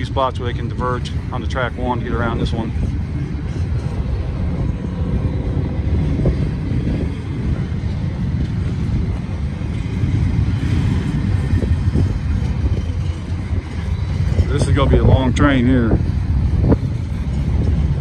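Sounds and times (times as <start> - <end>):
freight train rumbling: 0.0 - 18.0
wind buffeting microphone: 0.0 - 18.0.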